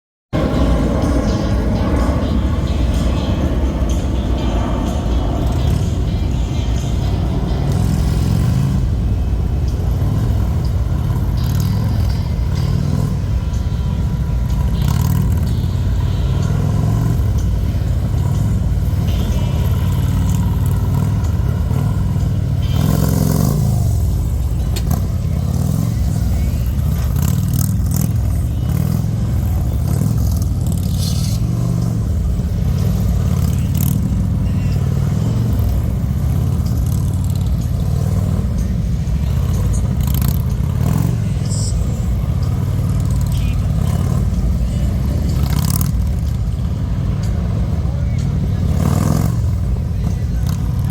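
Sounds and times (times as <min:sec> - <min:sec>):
motorcycle engines revving: 0:00.4 - 0:50.9.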